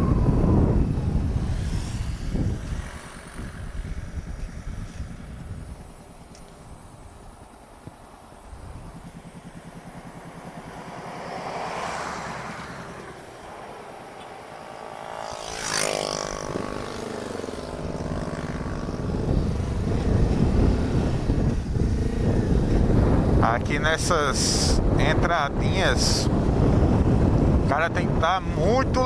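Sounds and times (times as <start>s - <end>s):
vehicle passing with whoosh: 0.0s - 7.2s, 8.0s - 28.0s
motorcycle engine: 0.0s - 25.0s
wind noise: 0.0s - 29.0s.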